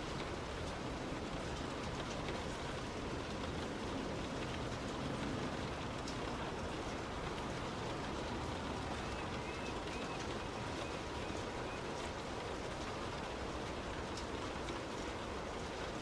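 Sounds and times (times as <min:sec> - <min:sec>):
heavy rain on a car: 0:00.0 - 0:16.0
rain drop ticks: 0:00.0 - 0:16.0.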